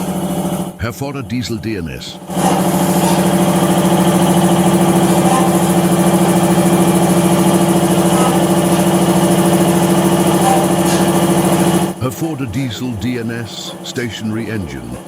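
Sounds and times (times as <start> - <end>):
stationary diesel engine running: 0.0 - 15.0.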